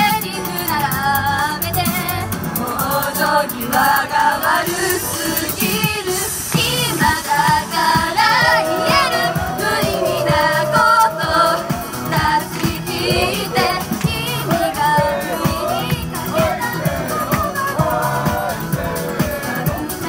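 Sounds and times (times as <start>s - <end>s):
pop backing track: 0.0s - 20.0s
women singing into microphones: 0.0s - 20.0s.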